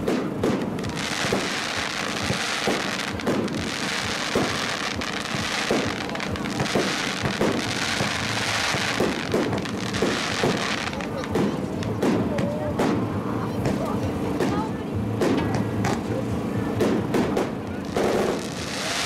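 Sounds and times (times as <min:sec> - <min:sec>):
firework shells booming: 0:00.0 - 0:13.8, 0:16.8 - 0:19.0
fireworks crackling: 0:00.0 - 0:19.0.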